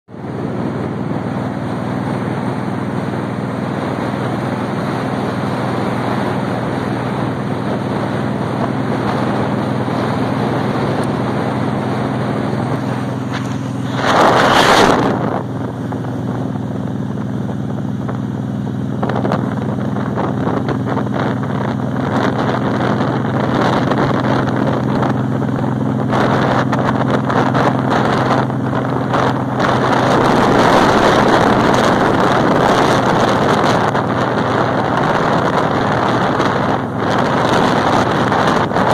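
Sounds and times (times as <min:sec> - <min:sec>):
motorcycle engine running: 0:00.1 - 0:38.9
wind rushing over microphone: 0:00.1 - 0:38.9.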